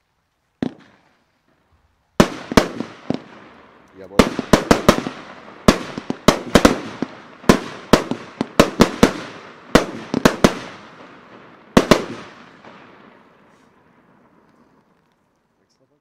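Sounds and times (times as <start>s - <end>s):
fireworks bangs echoing: 0.6s - 1.2s, 2.2s - 14.5s.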